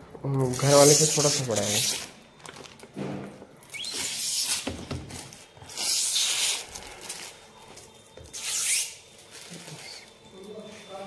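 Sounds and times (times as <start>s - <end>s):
plastic wrapping rustling and crackling: 0.3s - 11.0s.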